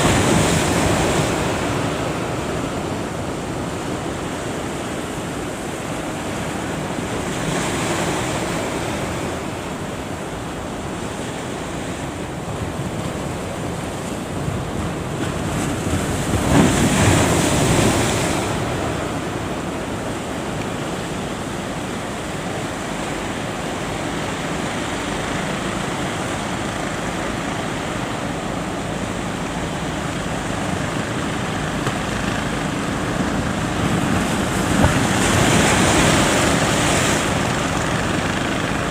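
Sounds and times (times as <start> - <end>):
ocean surf breaking: 0.0 - 38.9
wind buffeting microphone: 0.0 - 38.9.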